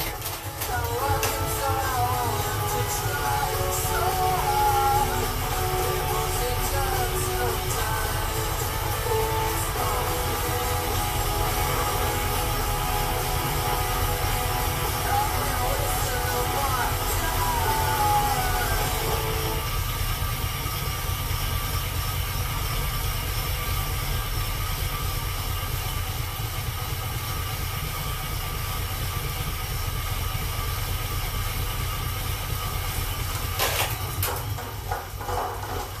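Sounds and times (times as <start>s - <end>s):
faint steady whine: 0.0s - 34.3s
bicycle tyres on rollers whirring: 0.0s - 36.0s.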